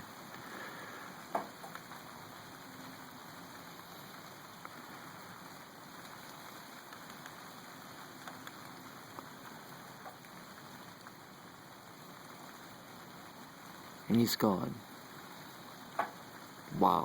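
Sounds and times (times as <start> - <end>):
water dripping and running: 0.0 - 17.0.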